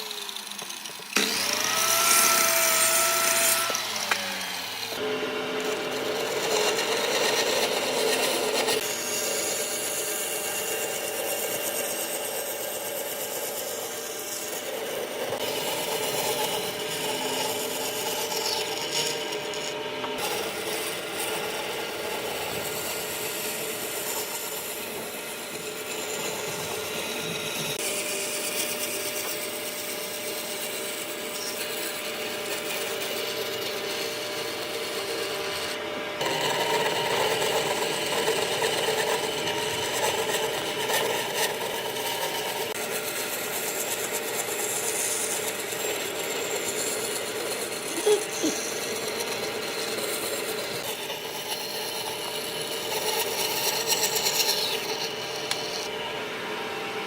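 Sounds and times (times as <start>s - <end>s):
tools rasping wood: 0.0s - 56.2s
motor hum: 0.0s - 57.0s.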